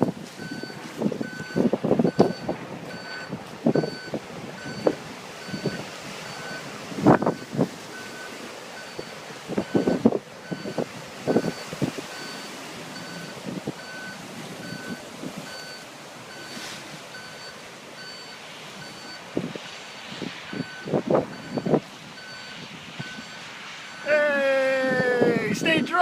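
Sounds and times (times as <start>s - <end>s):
truck reversing alarm beeping: 0.4s - 24.6s.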